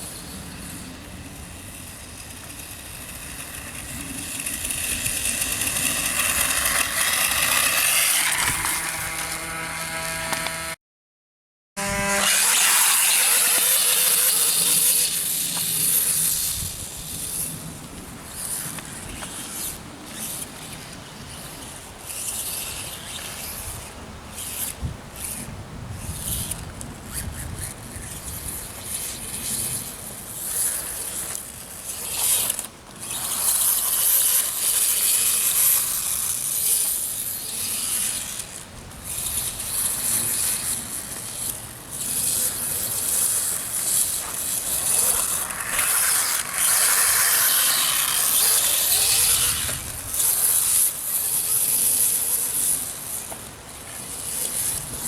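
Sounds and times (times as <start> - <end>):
electric motor whirring and whining: 0.1 - 10.8, 11.8 - 25.4, 26.0 - 55.0.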